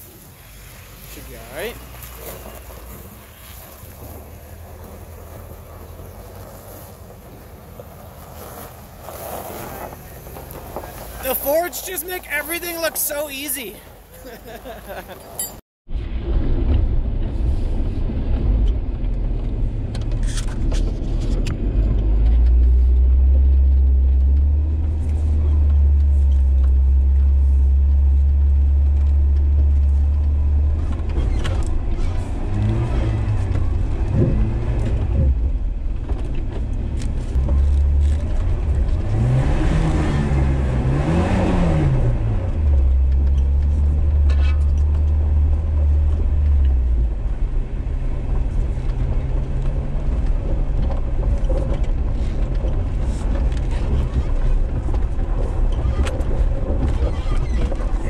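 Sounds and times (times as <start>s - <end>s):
vehicle engine humming: 0.0s - 58.0s.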